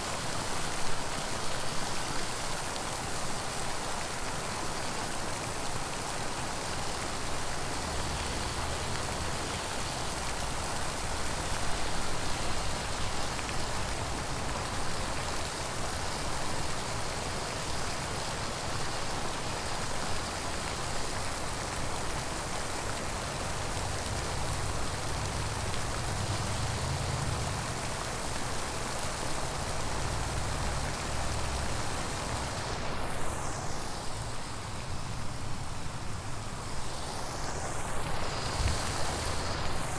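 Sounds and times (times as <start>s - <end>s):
rushing splashing water: 0.0s - 39.9s.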